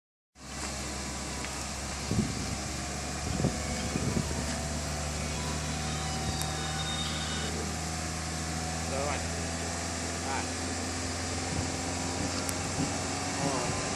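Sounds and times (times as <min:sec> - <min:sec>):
car engine idling: 0:00.4 - 0:13.9.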